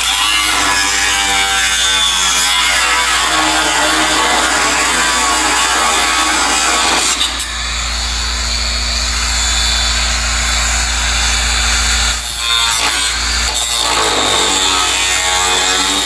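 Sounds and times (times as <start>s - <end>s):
power saw cutting sheet metal: 0.0s - 16.0s.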